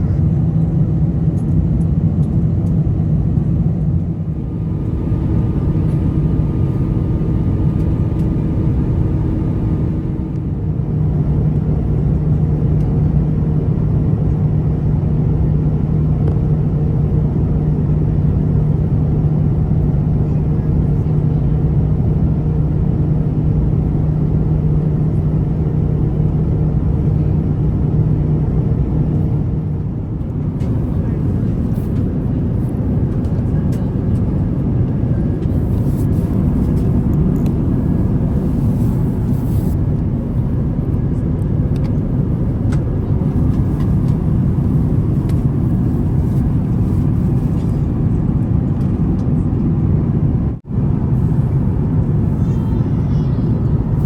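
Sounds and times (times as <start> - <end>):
jet engine rumble in cabin: 0.0 - 54.0
low engine hum: 0.0 - 54.0.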